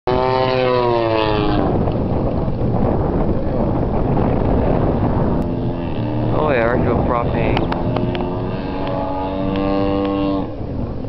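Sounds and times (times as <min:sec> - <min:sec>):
model plane engine in flight: 0:00.1 - 0:11.0
wind on microphone: 0:00.1 - 0:11.0.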